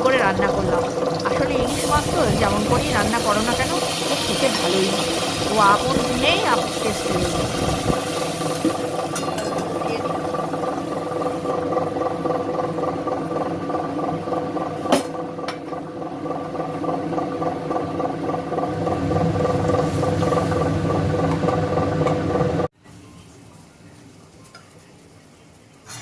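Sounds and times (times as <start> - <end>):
motor humming: 0.0 - 22.7.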